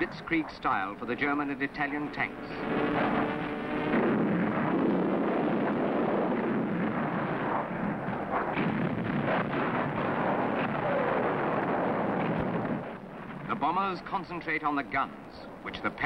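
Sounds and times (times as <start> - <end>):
bombs bursting: 0.0 - 15.8
anti-aircraft guns firing: 0.7 - 14.6.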